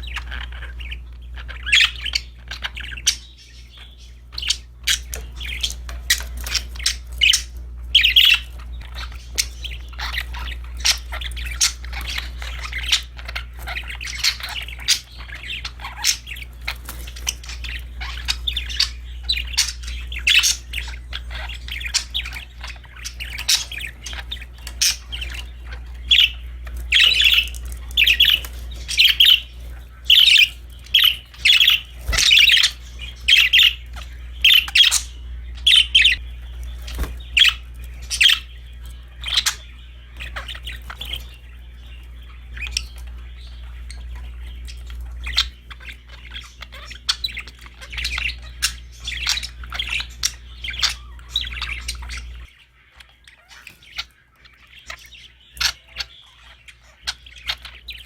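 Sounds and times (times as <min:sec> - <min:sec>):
budgerigars chirping and squawking: 0:00.0 - 0:58.0
low steady hum: 0:00.0 - 0:58.0.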